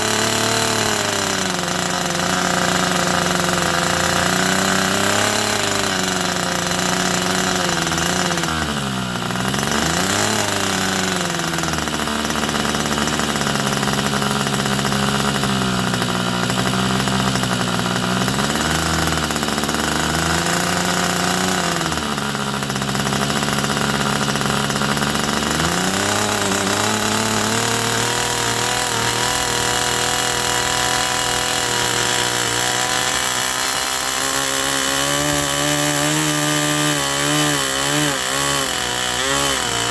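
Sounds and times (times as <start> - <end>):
model glow engine running: 0.0 - 39.9.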